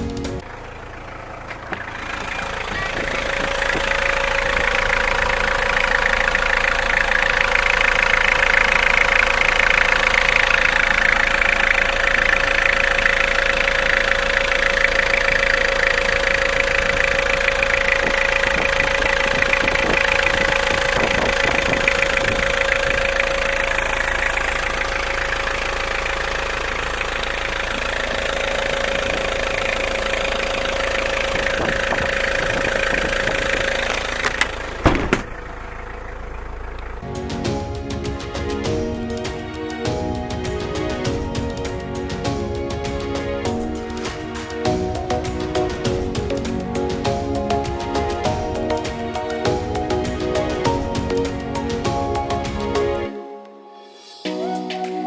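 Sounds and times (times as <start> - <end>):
constant whine: 0.0 - 53.1
diesel engine idling: 0.0 - 53.1.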